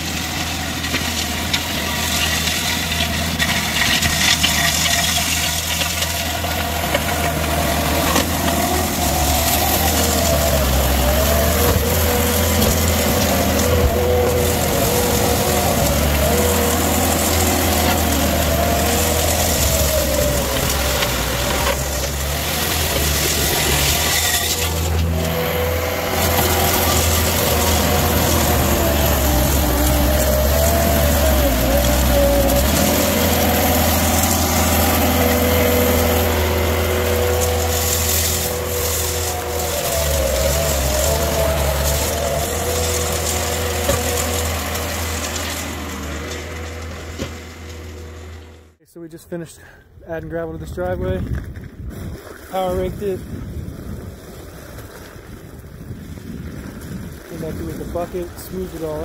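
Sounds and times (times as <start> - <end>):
diesel engine running under load: 0.0 - 51.2, 55.8 - 59.0.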